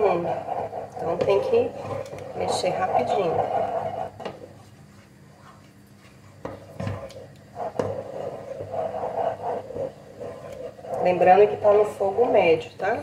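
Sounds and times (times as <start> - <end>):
spoon scraping swish: 0.0 - 11.8
wooden spoon stirring custard: 0.0 - 13.0.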